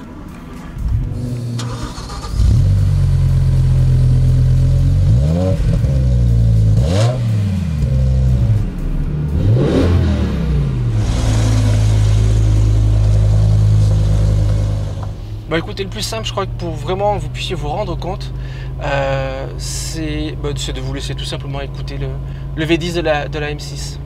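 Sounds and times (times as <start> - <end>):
car engine revving: 0.0 - 22.9
car engine idling: 0.0 - 24.0
car engine starting: 0.0 - 24.0.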